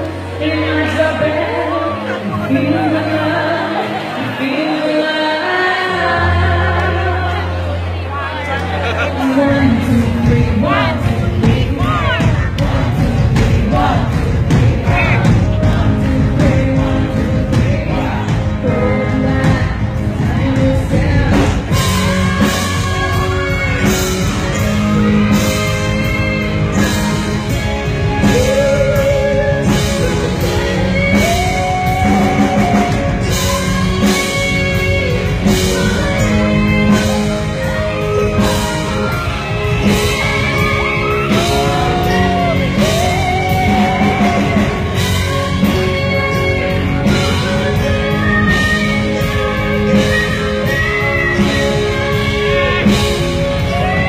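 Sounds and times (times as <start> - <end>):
bass guitar: 0.0 - 54.0
electric guitar: 0.0 - 54.0
person singing with vibrato: 0.0 - 54.0
drum beat: 10.3 - 54.0.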